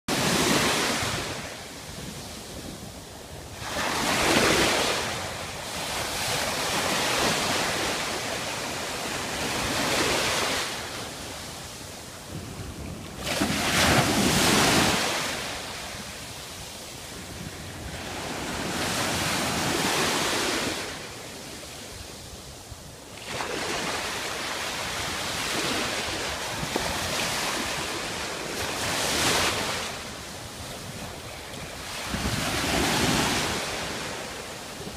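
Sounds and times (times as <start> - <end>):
ocean waves breaking: 0.1 - 22.1, 23.1 - 34.9
wind buffeting microphone: 0.1 - 34.9.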